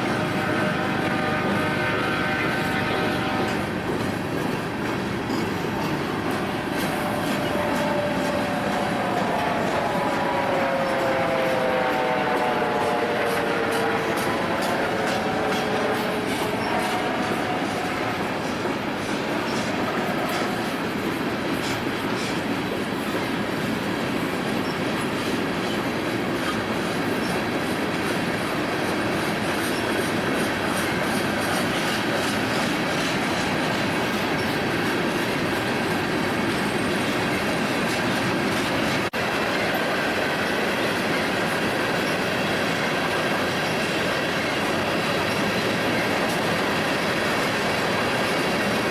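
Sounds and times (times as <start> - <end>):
train wheel squeal: 0.0 - 48.9
train wheels clickety-clack: 0.0 - 48.9.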